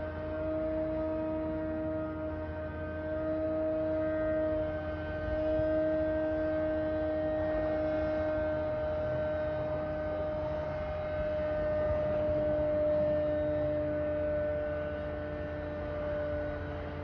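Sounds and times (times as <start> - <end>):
droning hum: 0.0 - 17.0.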